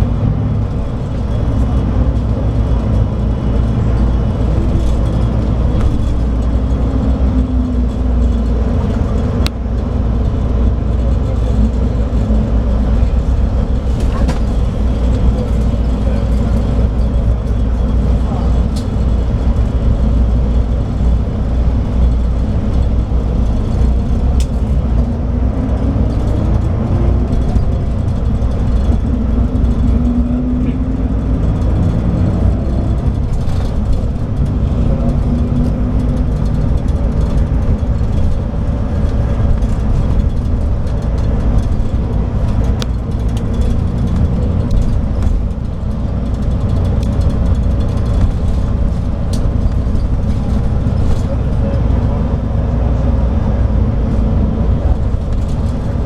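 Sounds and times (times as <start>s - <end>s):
coach diesel engine rumbling: 0.0s - 56.0s.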